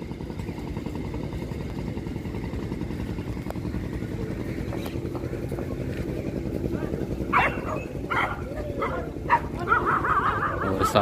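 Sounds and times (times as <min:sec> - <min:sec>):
low pulsing engine drone: 0:00.0 - 0:11.0.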